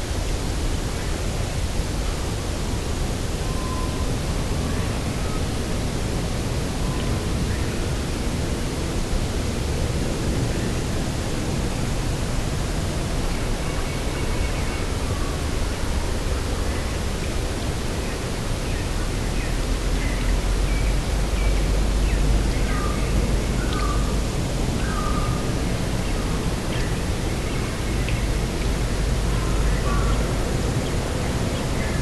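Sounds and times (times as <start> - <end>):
wind over grass field: 0.0 - 32.0.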